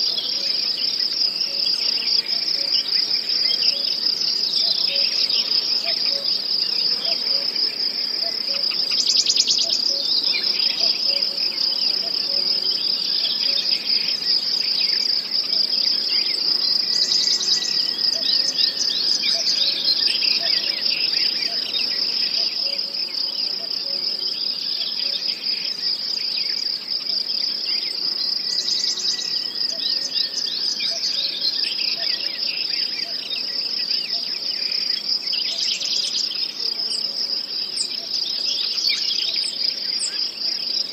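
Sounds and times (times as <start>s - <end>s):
crickets and insects chirping: 0.0s - 40.9s.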